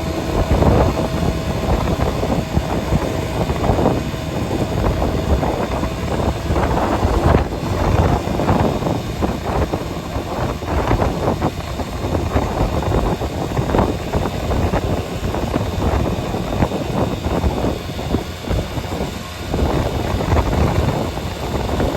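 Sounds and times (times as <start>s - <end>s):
engine and road rumble: 0.0s - 21.9s
wind buffeting microphone: 0.0s - 21.9s.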